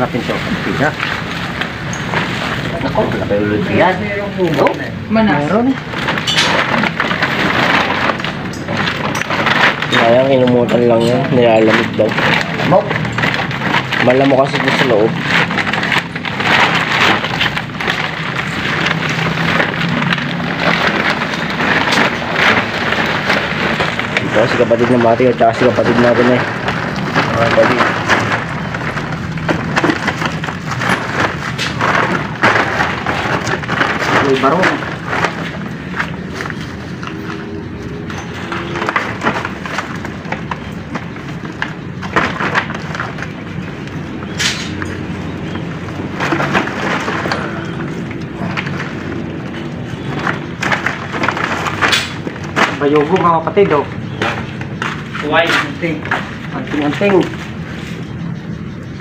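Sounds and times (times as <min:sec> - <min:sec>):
debris rustling in plastic sack: 0:00.0 - 0:58.6
small bits pattering: 0:00.0 - 0:59.0.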